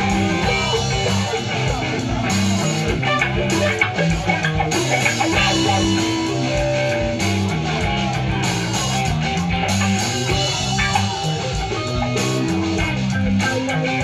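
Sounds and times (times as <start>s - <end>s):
bass line: 0.0s - 14.0s
guitars strumming: 0.0s - 14.0s
steady low drum beat: 0.0s - 14.0s.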